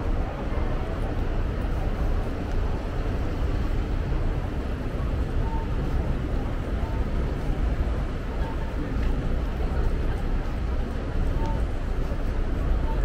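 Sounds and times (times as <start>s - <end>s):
city street rumble: 0.0s - 13.0s.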